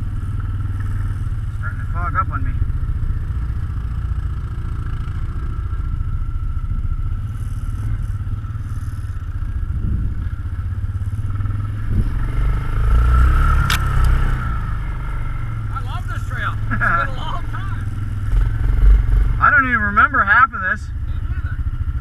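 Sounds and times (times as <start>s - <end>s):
atv engine rumbling: 0.0s - 22.0s.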